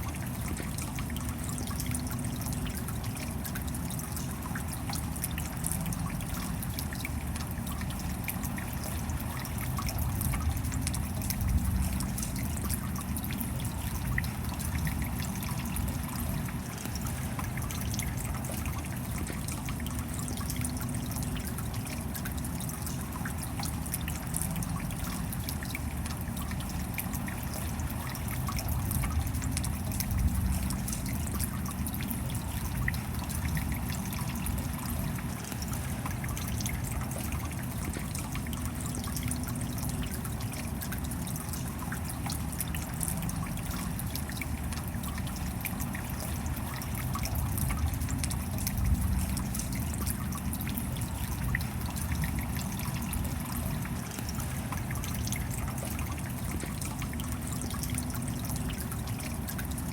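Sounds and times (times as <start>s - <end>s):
steady rain: 0.0s - 59.9s
water trickling: 0.0s - 59.9s.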